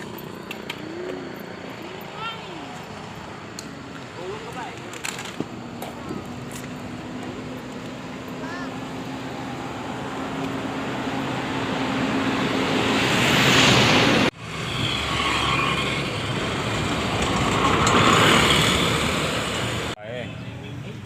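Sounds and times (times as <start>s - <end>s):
vehicle road noise while riding: 0.0s - 21.0s.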